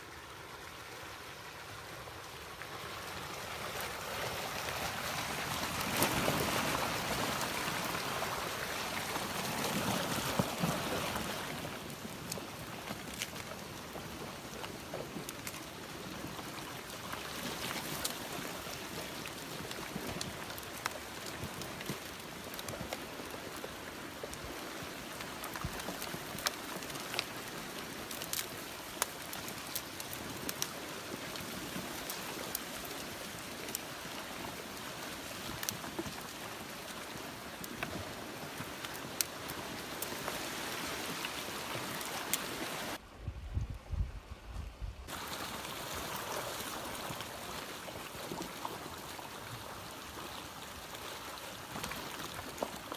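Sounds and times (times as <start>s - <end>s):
floodwater rushing: 0.0s - 43.0s, 45.1s - 52.9s.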